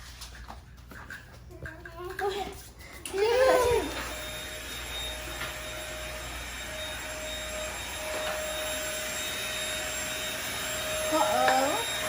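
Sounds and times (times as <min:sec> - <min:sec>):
thin steady whine: 0:00.3 - 0:12.0.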